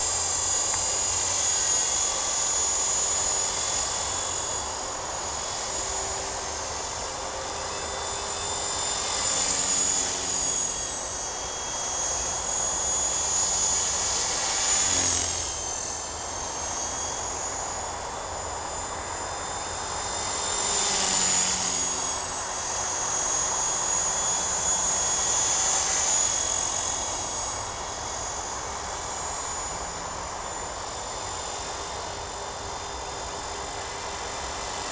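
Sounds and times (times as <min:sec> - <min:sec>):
model helicopter whine: 0:00.0 - 0:34.9.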